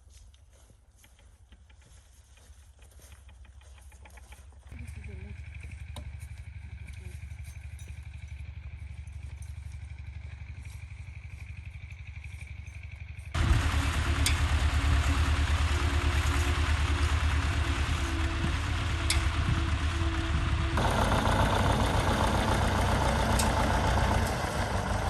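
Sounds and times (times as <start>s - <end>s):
tractor engine running: 0.2s - 25.0s.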